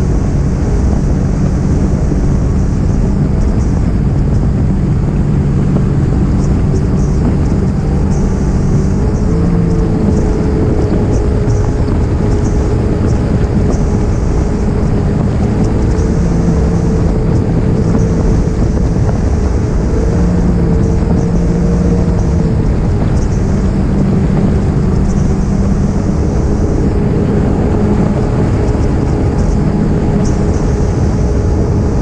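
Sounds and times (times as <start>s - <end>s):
jet ski engine running: 0.0s - 32.0s
rushing wind and water: 0.0s - 32.0s.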